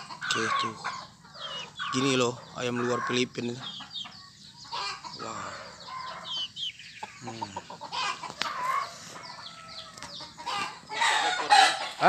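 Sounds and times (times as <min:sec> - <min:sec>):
roosters clucking: 0:00.0 - 0:12.0.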